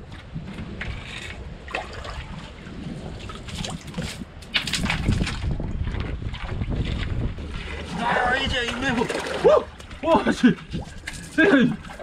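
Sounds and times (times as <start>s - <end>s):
water splashing and sloshing: 0.0s - 12.0s
wind rumble on microphone: 0.0s - 12.0s.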